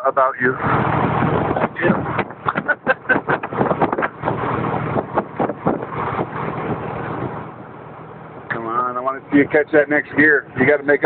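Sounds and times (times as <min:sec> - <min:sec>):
road and wind noise: 0:00.0 - 0:11.0
truck engine running: 0:00.0 - 0:11.0.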